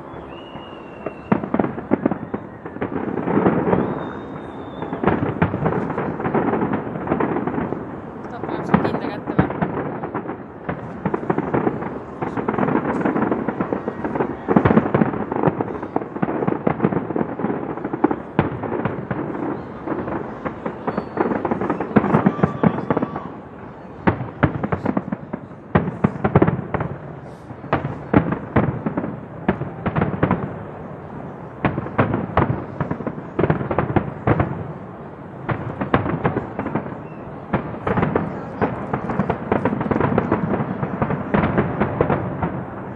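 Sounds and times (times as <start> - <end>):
fireworks booming: 0.0 - 42.9
fireworks cracking and crackling: 0.0 - 42.9.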